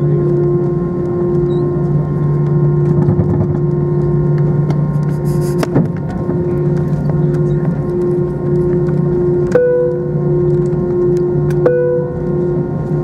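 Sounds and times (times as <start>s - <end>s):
aircraft cockpit drone: 0.0s - 13.0s.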